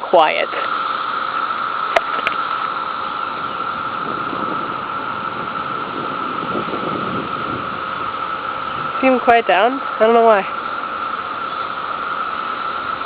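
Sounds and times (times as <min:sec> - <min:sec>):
cicadas buzzing drone: 0:00.0 - 0:13.0.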